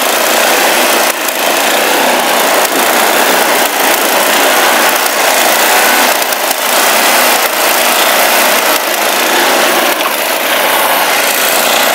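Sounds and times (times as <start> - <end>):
snowblower engine running: 0.0 - 11.9.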